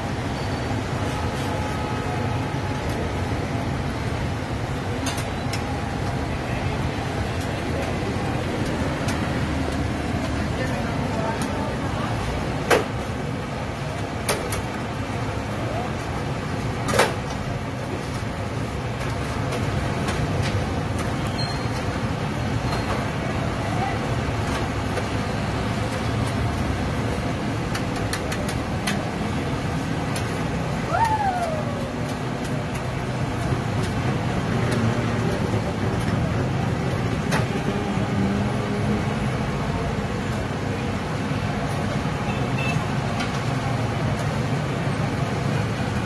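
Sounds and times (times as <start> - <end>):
street background rumble: 0.0 - 46.0.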